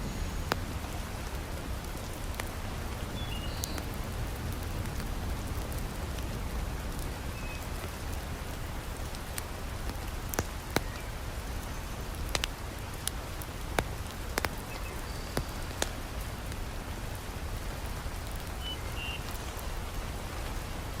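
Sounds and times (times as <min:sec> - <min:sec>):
wood fire popping and crackling: 0:00.0 - 0:18.6
heavy rain hissing: 0:00.0 - 0:21.0.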